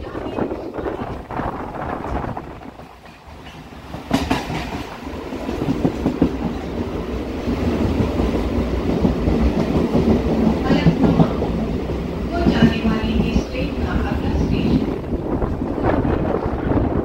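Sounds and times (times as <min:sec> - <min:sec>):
train wheels clattering on track: 0:00.0 - 0:14.8.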